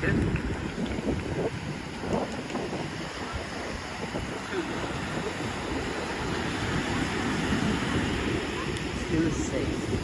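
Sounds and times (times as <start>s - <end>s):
sea waves washing onto beach: 0.0s - 10.0s
wind noise: 0.0s - 10.0s.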